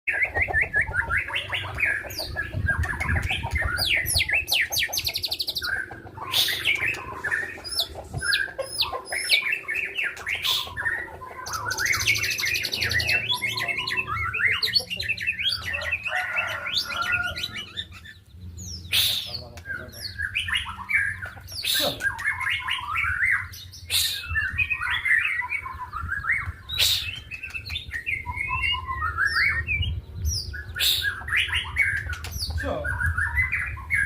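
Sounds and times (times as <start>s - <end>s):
bird singing whistled notes and trills: 0.1s - 34.0s.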